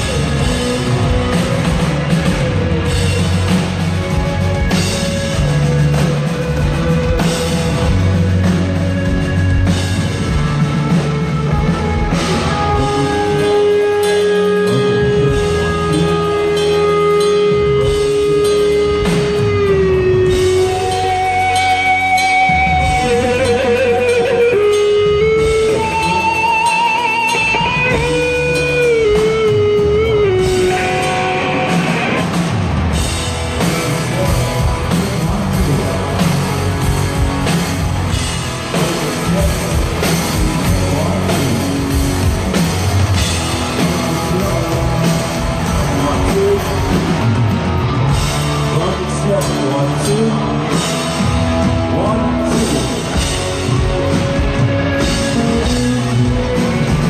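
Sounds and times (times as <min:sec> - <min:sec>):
bass guitar: 0:00.0 - 0:57.0
drums: 0:00.0 - 0:57.0
electric guitar melody: 0:00.0 - 0:57.0.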